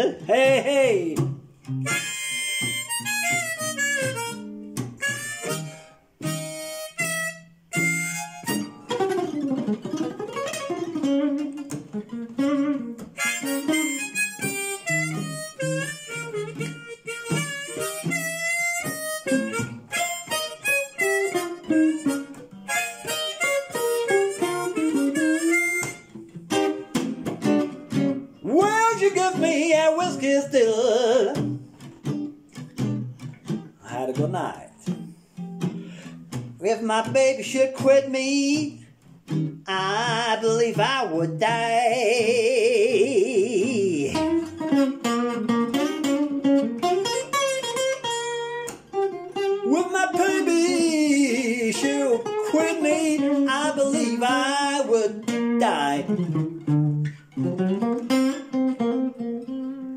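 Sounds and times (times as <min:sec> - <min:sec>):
blues harmonica solo: 0:00.0 - 0:33.8, 0:34.8 - 0:59.9
picked guitar accompaniment: 0:00.0 - 0:59.9.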